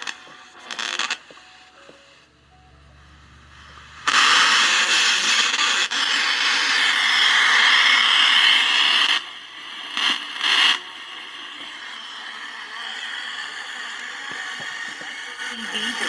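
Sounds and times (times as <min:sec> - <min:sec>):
television static hiss: 0:00.0 - 0:16.0.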